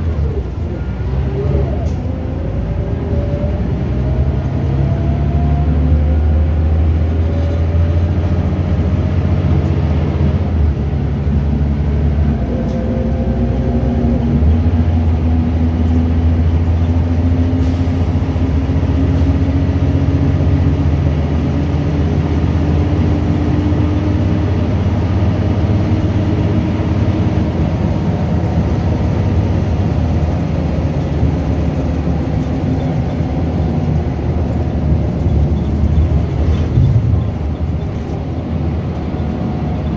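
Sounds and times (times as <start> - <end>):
bus diesel engine under load: 0.0 - 39.9.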